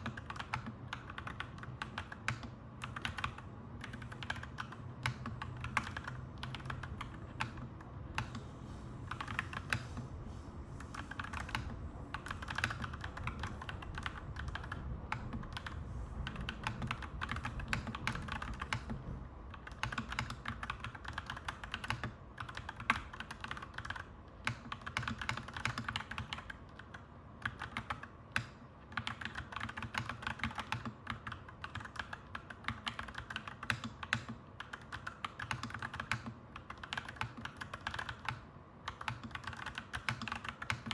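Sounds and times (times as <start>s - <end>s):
mechanical keyboard typing: 0.0s - 8.5s, 9.1s - 10.0s, 10.9s - 40.9s.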